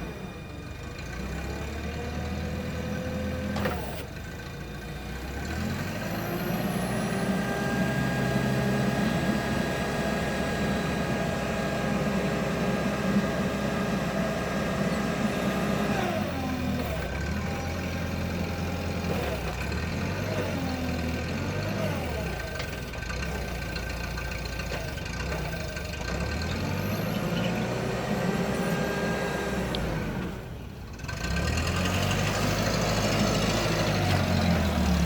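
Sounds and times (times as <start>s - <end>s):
forklift engine idling and revving: 0.0s - 35.0s.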